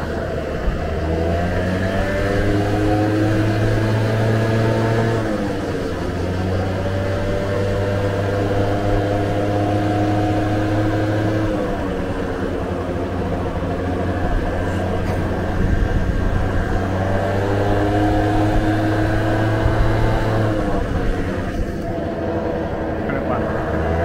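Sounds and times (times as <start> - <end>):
scooter engine running: 0.0 - 24.0
wind and road noise: 0.0 - 24.0.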